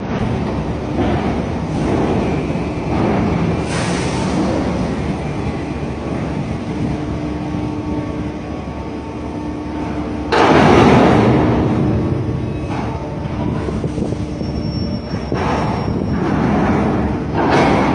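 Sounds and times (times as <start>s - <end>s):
heavy machinery rumble: 0.0s - 17.9s.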